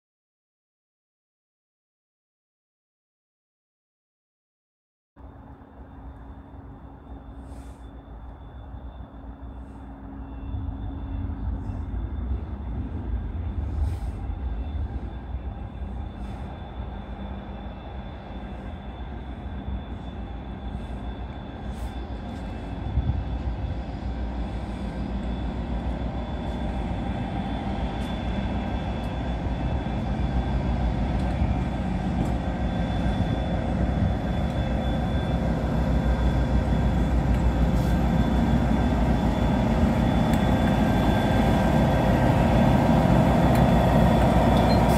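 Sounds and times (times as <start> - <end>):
diesel locomotive engine rumble: 5.2 - 44.9.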